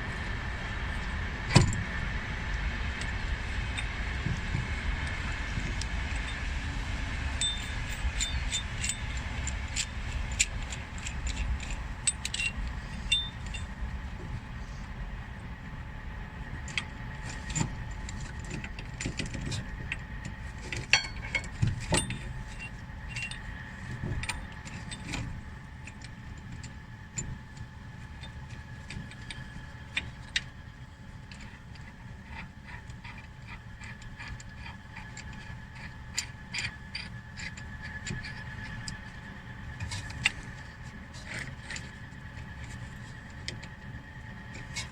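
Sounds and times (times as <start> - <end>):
low background hum: 0.0 - 44.9.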